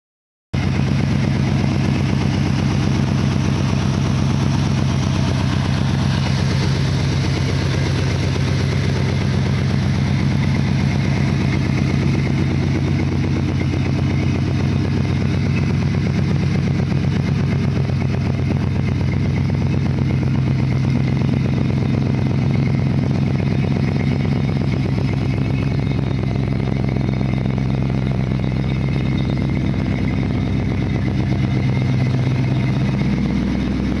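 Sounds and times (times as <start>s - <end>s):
pickup engine idling: 0.6s - 34.0s.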